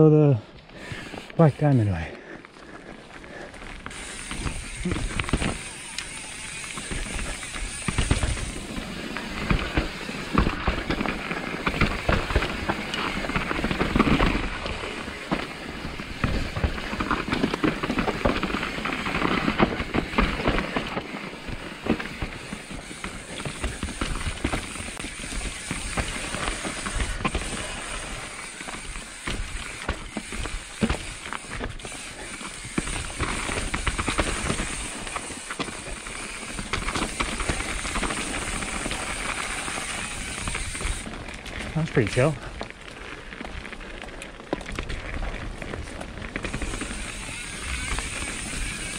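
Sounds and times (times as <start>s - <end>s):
tyre rush on dirt trail: 0.0s - 48.9s
bike knocks and rattles: 3.8s - 42.8s, 44.4s - 48.9s.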